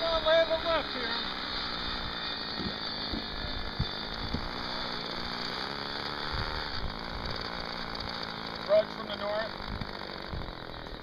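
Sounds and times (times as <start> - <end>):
model plane engines droning: 0.0 - 11.0.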